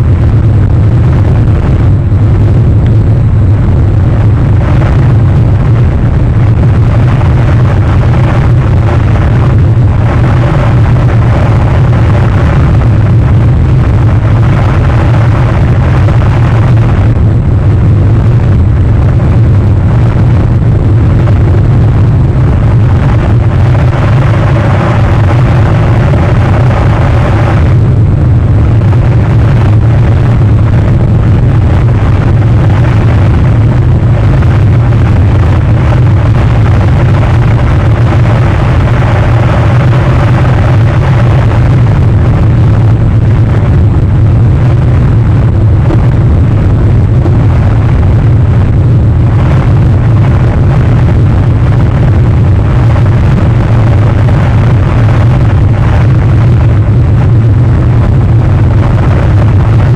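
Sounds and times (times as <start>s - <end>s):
loud low rumbling: 0.0s - 59.9s.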